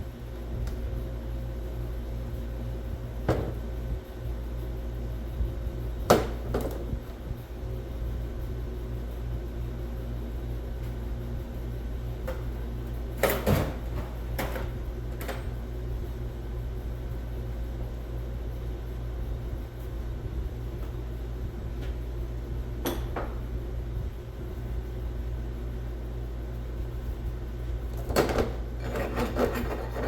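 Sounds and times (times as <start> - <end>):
workshop hum: 0.0 - 30.0.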